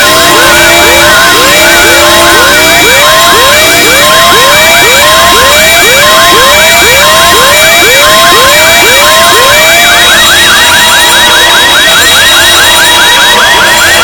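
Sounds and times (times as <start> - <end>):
rising siren whoop: 0.0 - 14.0
steady high siren whine: 0.0 - 14.0
two-tone siren: 0.0 - 14.0.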